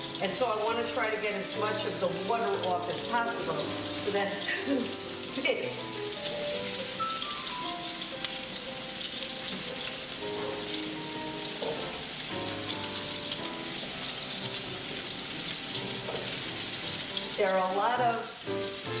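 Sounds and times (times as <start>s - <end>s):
potatoes sizzling in hot oil: 0.0s - 19.0s
soft background music: 0.0s - 19.0s.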